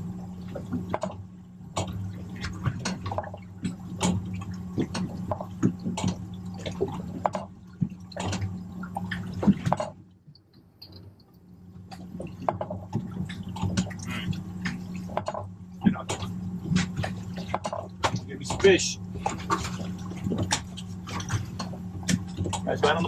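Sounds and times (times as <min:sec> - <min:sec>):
steady low hum: 0:00.0 - 0:23.0
water splashing against boat hull: 0:00.0 - 0:23.0.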